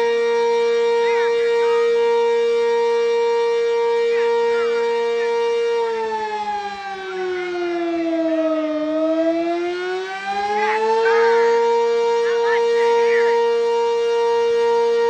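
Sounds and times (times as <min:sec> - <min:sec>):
civil defense siren: 0:00.0 - 0:15.0.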